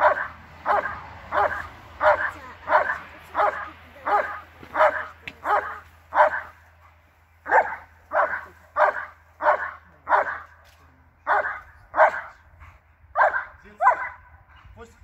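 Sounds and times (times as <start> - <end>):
dog barking: 0.0 - 6.6, 7.4 - 10.6, 11.2 - 12.4, 13.2 - 14.7.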